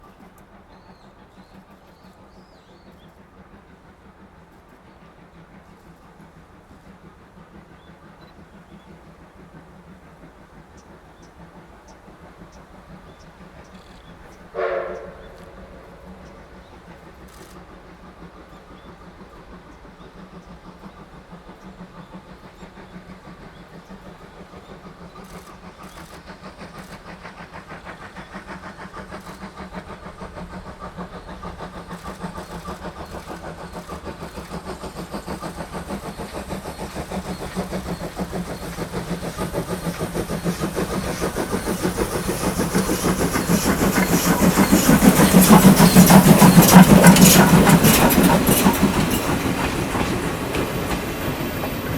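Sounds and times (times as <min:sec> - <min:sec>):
steam locomotive exhaust beats: 0:00.0 - 0:51.9.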